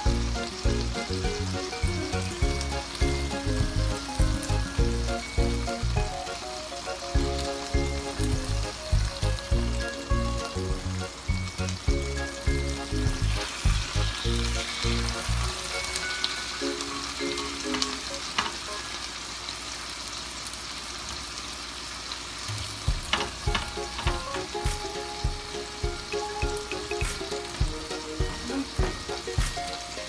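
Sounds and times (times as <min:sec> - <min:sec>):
background music with steady beat: 0:00.0 - 0:18.8, 0:22.5 - 0:30.0
fish sizzling in a skillet: 0:00.0 - 0:30.0
spatula and tongs in a pan: 0:00.0 - 0:30.0.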